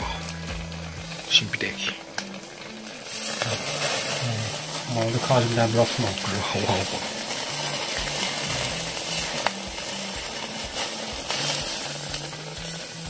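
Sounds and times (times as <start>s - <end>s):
shellfish juices sizzling and bubbling: 0.0s - 13.0s
small crackles: 0.0s - 13.0s.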